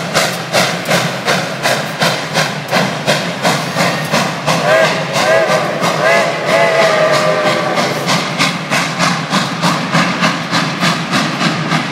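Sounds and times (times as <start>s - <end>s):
steam locomotive exhaust chuff: 0.0s - 11.9s.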